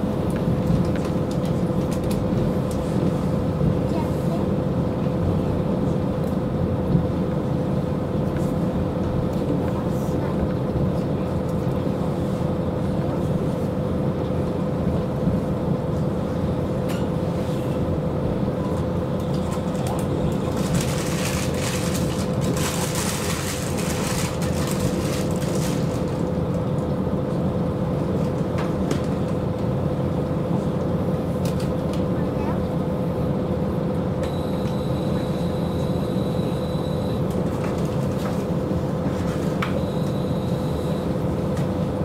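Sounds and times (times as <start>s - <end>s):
constant hum: 0.0s - 42.0s
diesel railcar engine rumble: 0.0s - 42.0s.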